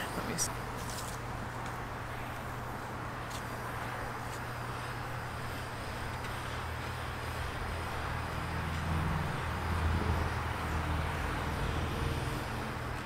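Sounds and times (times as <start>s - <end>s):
hand torch flame hissing: 0.0s - 13.0s.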